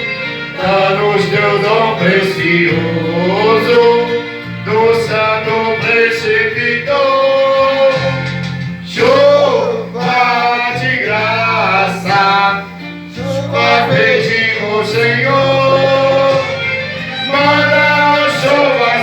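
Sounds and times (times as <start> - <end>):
guitar accompaniment: 0.0 - 19.0
man singing a hymn: 0.0 - 19.0.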